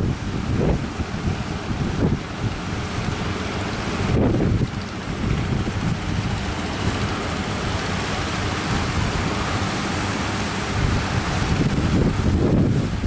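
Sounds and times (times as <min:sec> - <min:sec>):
rushing surf: 0:00.0 - 0:13.0
wind buffeting microphone: 0:00.0 - 0:13.0.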